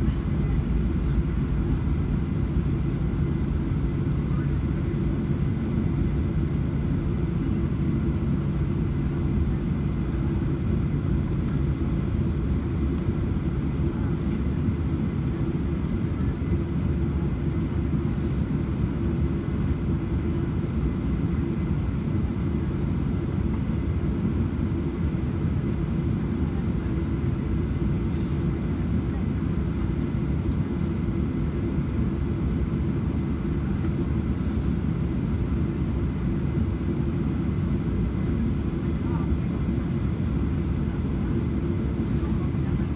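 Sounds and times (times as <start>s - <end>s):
jet engine drone in cabin: 0.0s - 42.9s.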